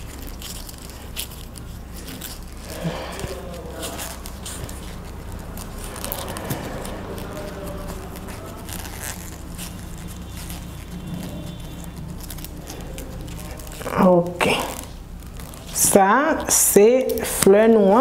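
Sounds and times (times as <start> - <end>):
steady low hum: 0.0 - 18.0
tape crackling and scraping: 0.0 - 18.0.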